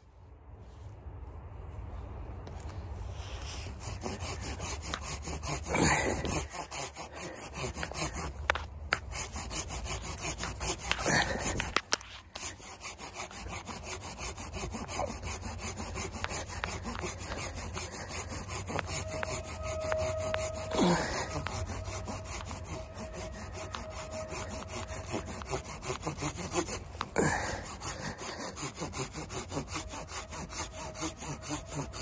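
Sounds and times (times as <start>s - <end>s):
hand saw rasping through branch: 3.4s - 32.0s.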